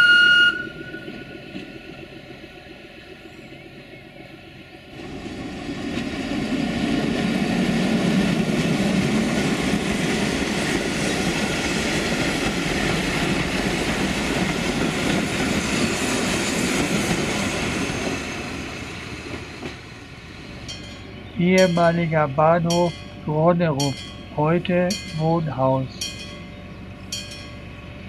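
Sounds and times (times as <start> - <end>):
train wheels running over rails: 0.0 - 3.6, 4.4 - 28.0
diesel locomotive engine: 0.0 - 28.0.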